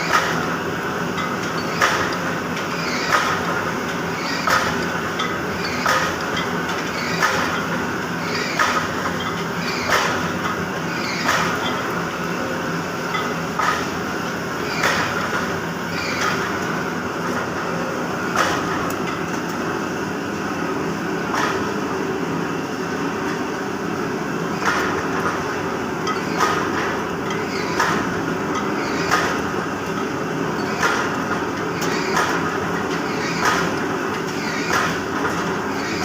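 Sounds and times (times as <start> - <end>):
forging press humming: 0.0 - 36.0.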